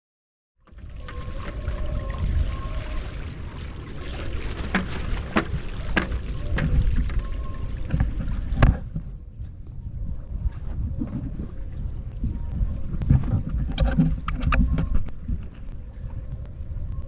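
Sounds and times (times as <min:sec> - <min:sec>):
water splashing and trickling: 0:00.6 - 0:16.7
wind buffeting microphone: 0:00.7 - 0:17.0.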